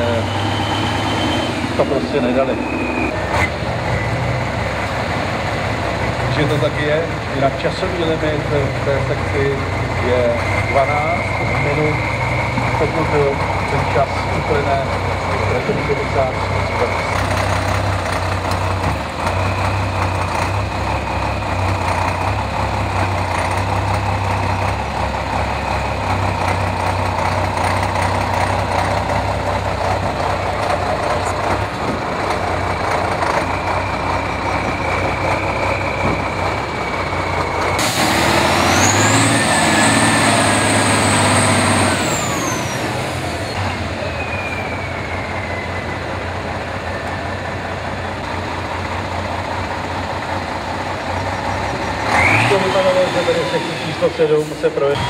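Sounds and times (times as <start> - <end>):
truck diesel engine under load: 0.0 - 55.0.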